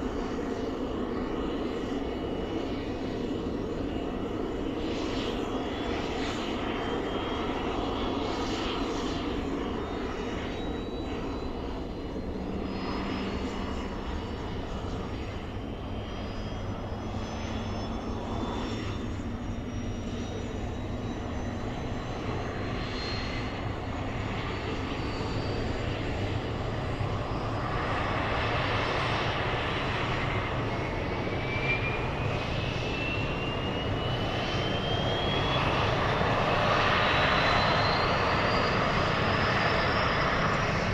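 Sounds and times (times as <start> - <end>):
helicopter turbine engine whining: 0.0 - 40.9.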